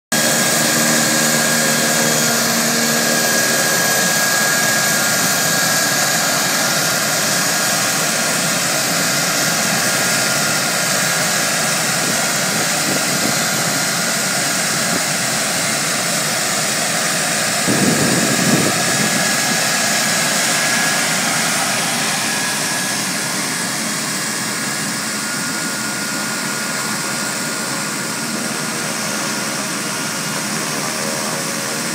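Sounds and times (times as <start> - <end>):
turboprop engines whining: 0.1 - 31.9.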